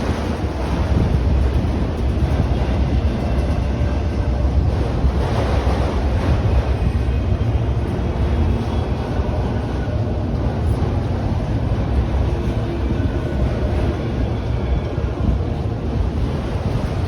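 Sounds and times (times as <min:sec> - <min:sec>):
train wheels rumbling on rail: 0:00.0 - 0:17.0
wind buffeting microphone: 0:00.0 - 0:17.0.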